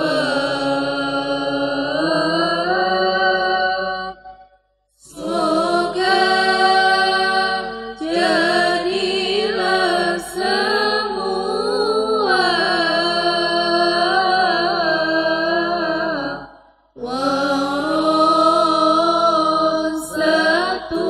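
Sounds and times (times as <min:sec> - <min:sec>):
women chanting a poem: 0:00.0 - 0:04.1, 0:05.0 - 0:21.0.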